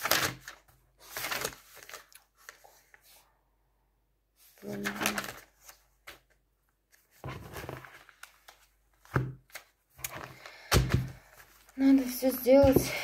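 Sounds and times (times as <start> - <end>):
paper pages rustling: 0.0 - 3.2, 4.4 - 13.0.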